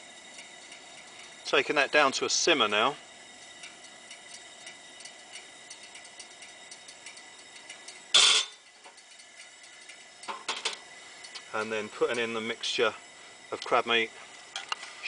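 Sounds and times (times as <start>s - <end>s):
camp stove hiss: 0.0s - 15.0s.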